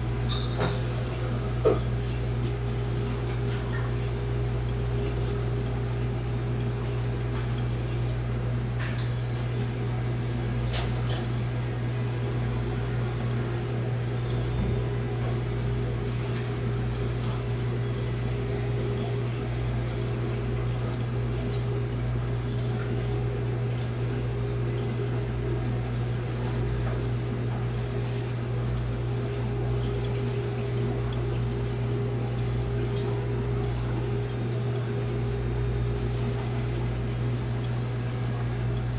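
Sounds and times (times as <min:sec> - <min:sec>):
steady low hum: 0:00.0 - 0:38.9
knife scraping on whetstone: 0:00.3 - 0:08.2, 0:08.8 - 0:15.0, 0:15.9 - 0:26.6, 0:27.7 - 0:35.5, 0:36.4 - 0:38.9.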